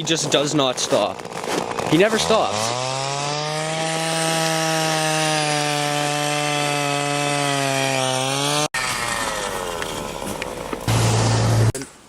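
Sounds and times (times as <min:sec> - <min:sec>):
power ice auger drilling: 0:00.0 - 0:11.9.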